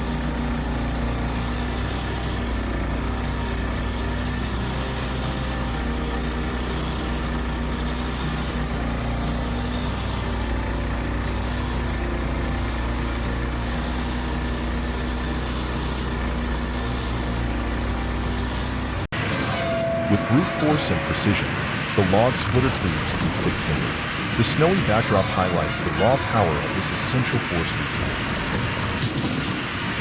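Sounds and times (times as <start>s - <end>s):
small engine running steadily: 0.0s - 19.2s, 21.6s - 30.0s.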